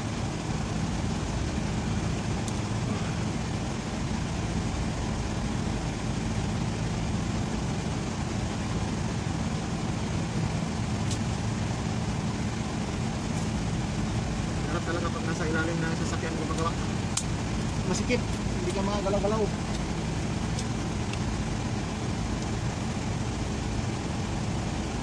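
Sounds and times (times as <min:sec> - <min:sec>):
low mechanical drone: 0:00.0 - 0:25.0.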